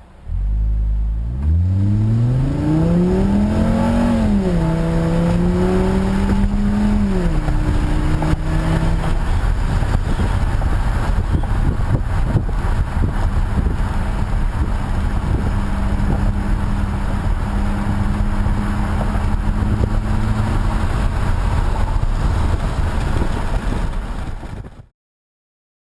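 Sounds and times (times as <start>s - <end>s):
car exhaust low rumble: 0.0s - 24.9s.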